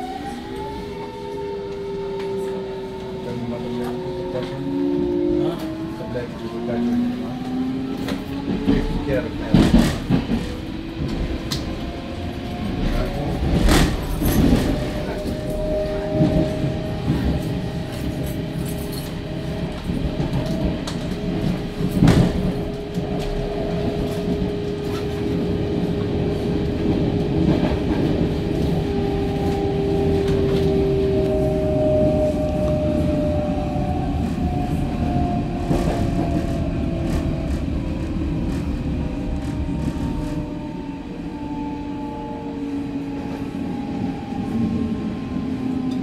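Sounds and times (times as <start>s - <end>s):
train wheels rumbling on rail: 0.0s - 46.0s
whining train tones: 0.0s - 46.0s.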